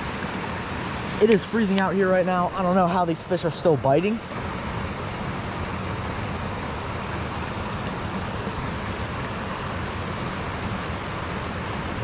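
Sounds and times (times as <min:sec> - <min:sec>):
water pouring over dam spillway: 0:00.0 - 0:12.0.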